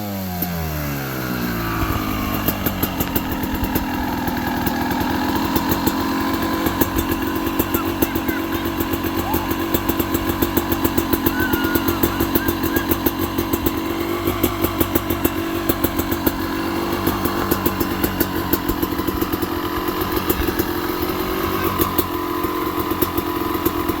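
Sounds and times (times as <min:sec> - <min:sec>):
two-stroke engine running: 0:00.0 - 0:24.0.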